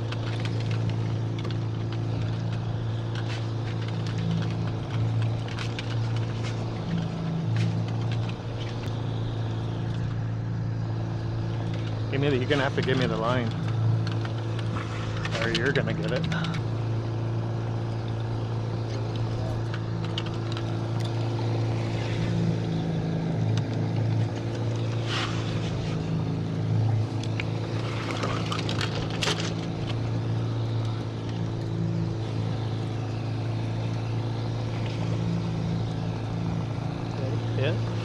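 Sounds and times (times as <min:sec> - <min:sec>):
boat motor humming: 0:00.0 - 0:38.0.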